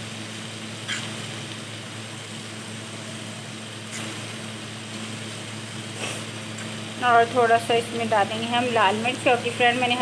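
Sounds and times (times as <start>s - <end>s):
steady low hum: 0.0s - 10.0s
vegetables sizzling in a pan: 0.0s - 10.0s.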